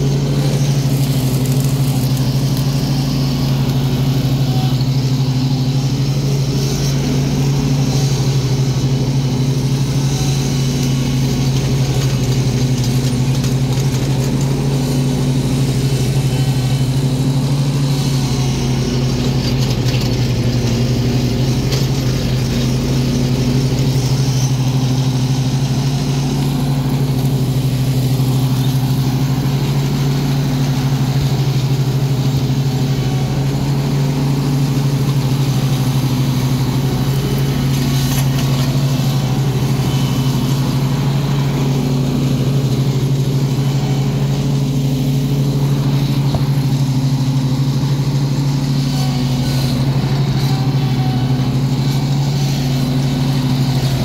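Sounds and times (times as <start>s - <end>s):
lawn mower engine droning: 0.0s - 54.0s.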